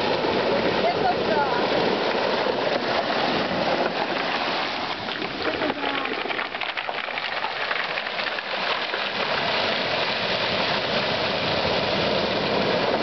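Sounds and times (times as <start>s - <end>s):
surf washing over stones: 0.0s - 13.0s.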